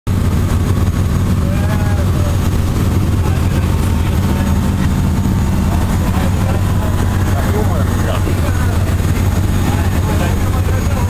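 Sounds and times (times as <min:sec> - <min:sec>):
low engine drone: 0:00.1 - 0:11.0.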